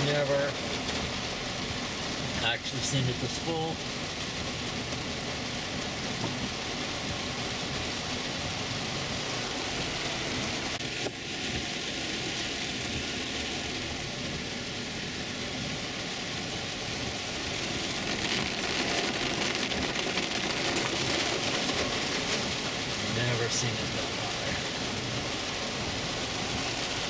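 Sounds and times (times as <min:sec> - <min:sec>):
heavy rain on a car: 0:00.0 - 0:27.0.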